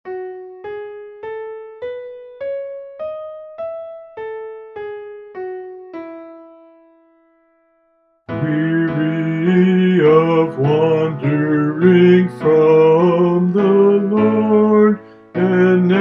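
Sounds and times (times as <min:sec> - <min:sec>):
keyboard playing hymn melody: 0:00.0 - 0:16.0.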